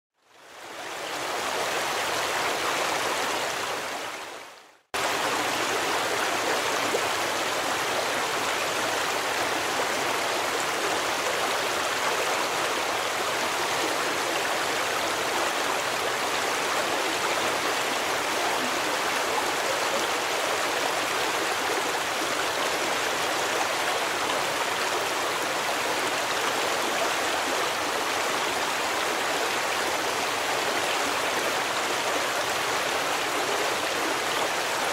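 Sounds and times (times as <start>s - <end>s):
stream rushing: 0.3s - 34.9s.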